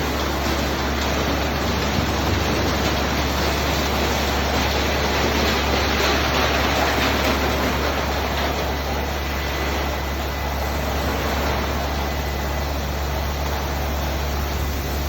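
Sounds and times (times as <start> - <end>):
car wash machinery rushing: 0.0 - 15.0.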